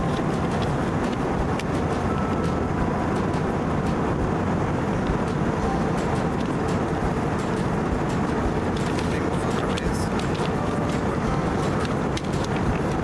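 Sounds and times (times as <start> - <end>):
airliner cabin rushing noise: 0.0 - 13.0.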